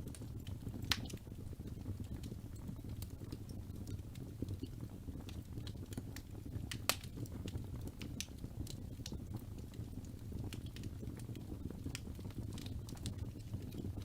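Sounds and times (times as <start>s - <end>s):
fire crackles and pops: 0.0s - 14.0s
wood fire rumble: 0.0s - 14.0s.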